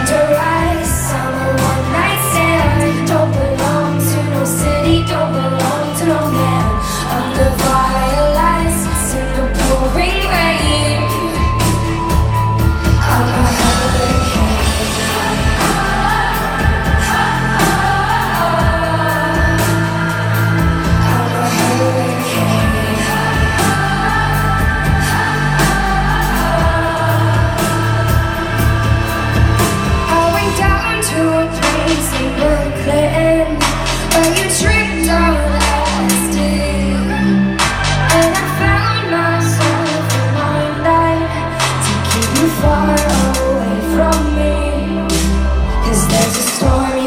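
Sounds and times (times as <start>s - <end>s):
band with heavy bass: 0.0s - 47.0s
woman singing: 0.0s - 47.0s.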